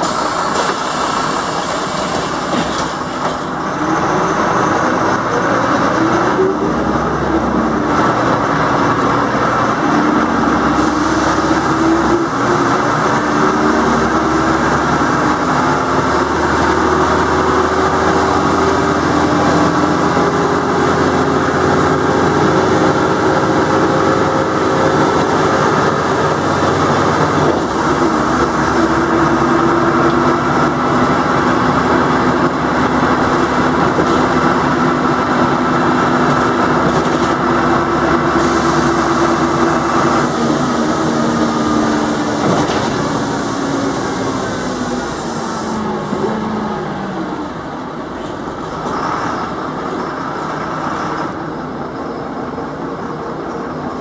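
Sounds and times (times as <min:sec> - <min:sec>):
bus engine whine: 0:00.0 - 0:54.0.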